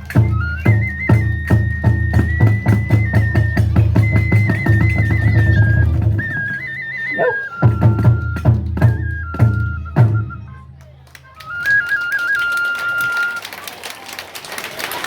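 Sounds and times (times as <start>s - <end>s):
bamboo flute melody: 0.0s - 13.6s.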